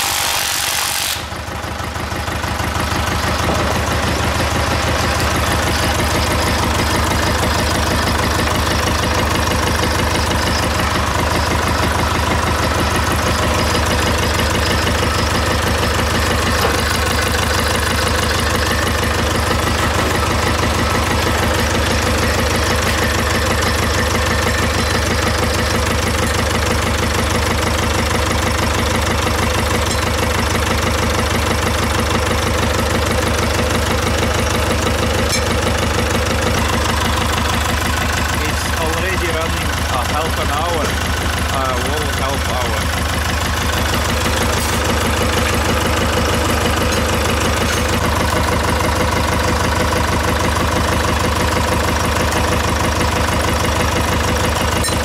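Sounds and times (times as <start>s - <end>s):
diesel engine idling with clatter: 0.0s - 55.0s.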